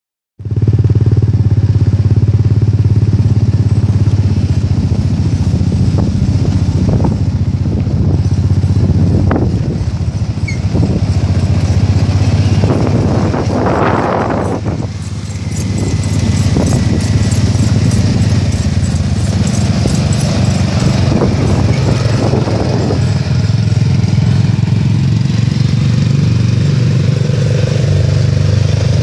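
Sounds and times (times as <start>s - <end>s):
dune buggy engine running: 0.4s - 29.0s
passing buggy rushing noise: 2.7s - 29.0s.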